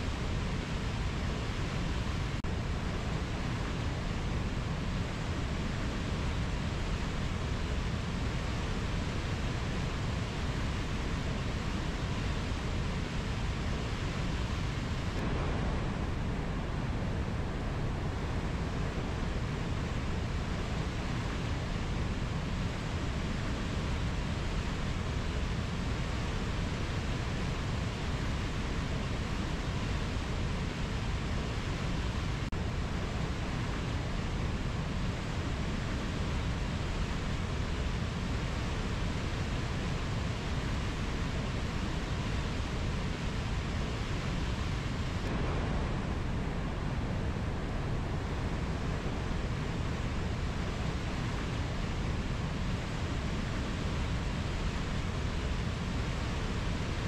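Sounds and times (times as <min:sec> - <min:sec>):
river flowing over rapids: 0:00.0 - 0:57.0.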